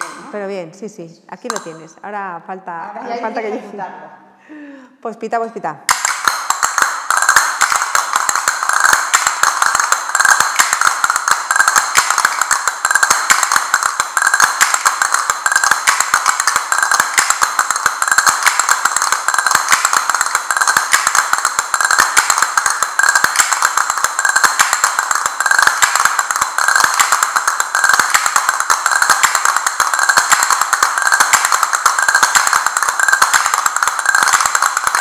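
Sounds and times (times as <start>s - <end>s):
castanets clattering: 5.9s - 35.0s.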